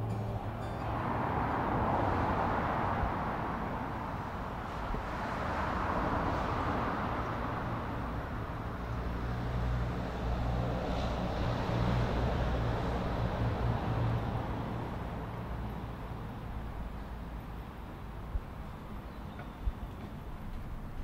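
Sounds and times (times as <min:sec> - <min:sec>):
low engine hum: 0:00.0 - 0:21.0
road traffic rushing: 0:00.0 - 0:21.0.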